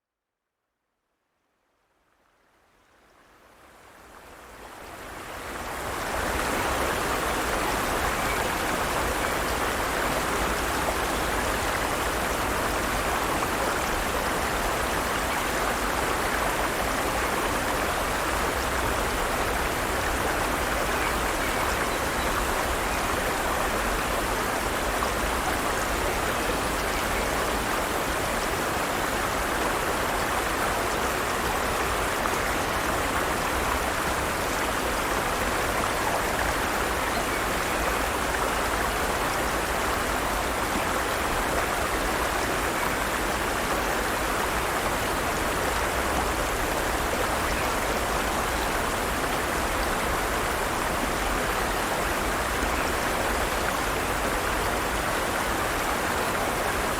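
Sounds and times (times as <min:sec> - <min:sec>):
stream flowing over rocks: 0:03.8 - 0:56.9.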